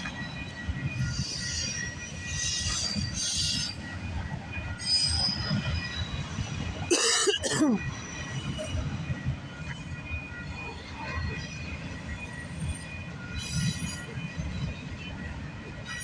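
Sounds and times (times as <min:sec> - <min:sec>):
wheels squealing on rails: 0:00.0 - 0:06.9, 0:07.8 - 0:16.0
freight train rumbling: 0:00.0 - 0:16.0.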